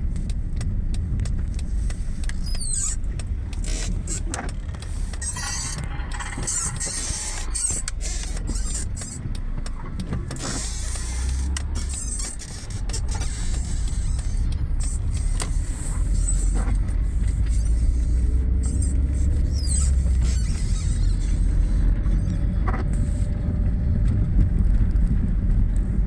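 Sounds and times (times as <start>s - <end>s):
diesel engine rumble: 0.0s - 26.0s.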